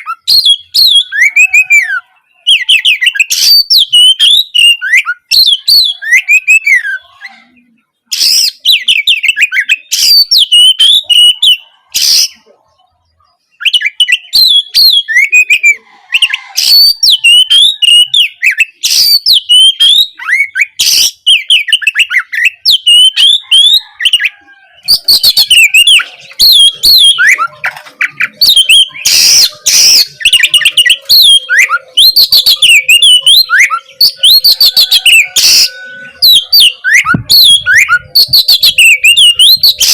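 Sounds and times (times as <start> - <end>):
bird singing whistled trills: 0.0 - 7.0, 7.6 - 12.5, 13.2 - 39.9
loud rasping bird notes: 0.0 - 39.9.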